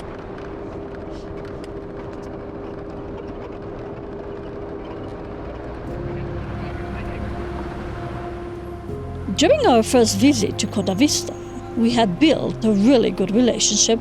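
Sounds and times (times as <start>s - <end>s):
diesel engine driving: 0.0s - 14.0s
road noise: 0.0s - 14.0s.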